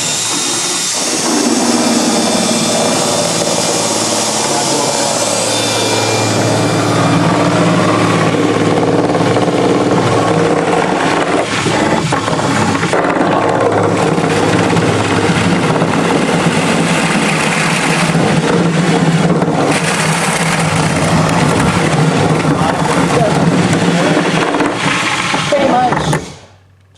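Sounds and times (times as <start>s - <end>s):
power drill running under load: 0.0s - 26.4s.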